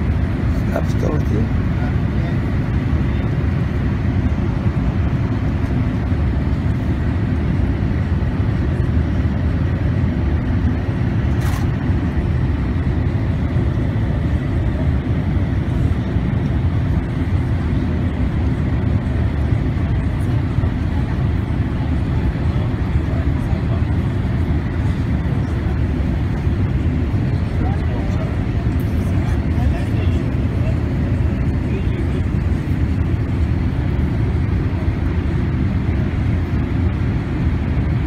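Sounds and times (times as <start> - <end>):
airliner cabin engine rush: 0.0 - 38.0.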